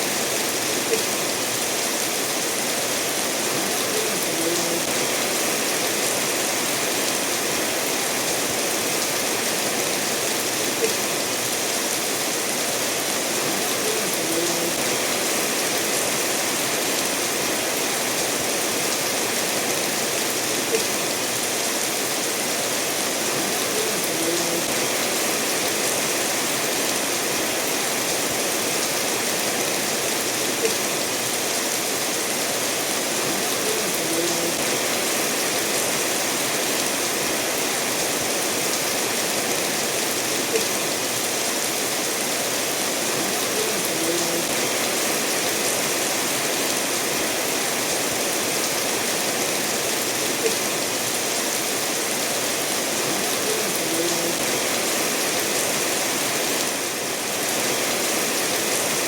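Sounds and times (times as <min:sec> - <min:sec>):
rain falling: 0:00.0 - 0:59.0
stream running over stones: 0:00.0 - 0:59.0.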